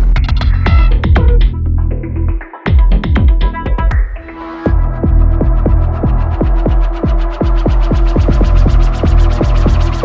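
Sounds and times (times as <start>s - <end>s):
kick drum with hi-hats: 0.0s - 1.6s, 2.3s - 10.0s.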